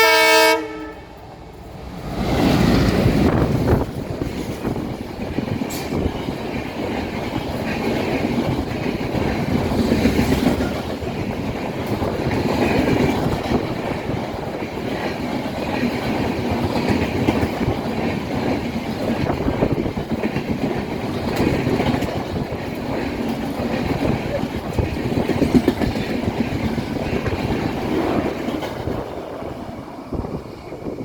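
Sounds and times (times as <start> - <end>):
train rumbling past: 0.0 - 31.0
wheels clattering over rail joints: 1.6 - 29.7.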